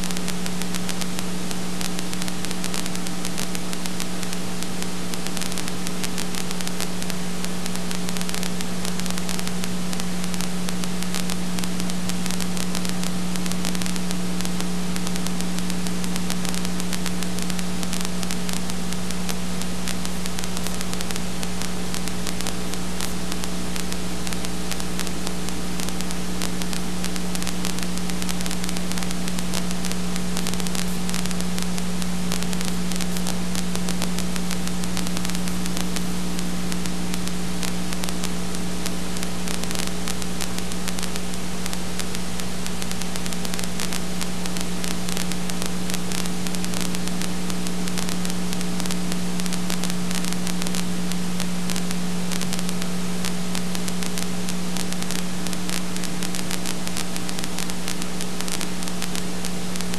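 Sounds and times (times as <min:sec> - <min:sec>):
static hiss: 0:00.0 - 0:59.9.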